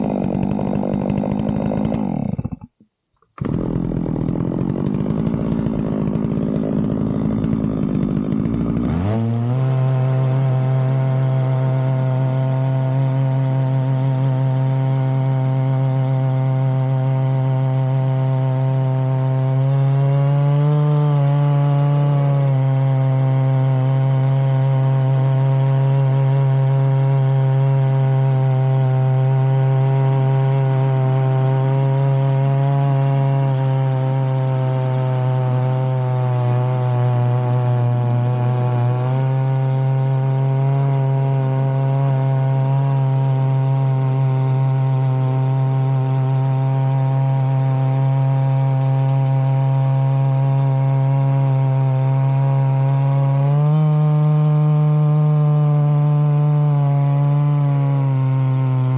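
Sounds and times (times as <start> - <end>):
chainsaw cutting a log: 0.0 - 58.9.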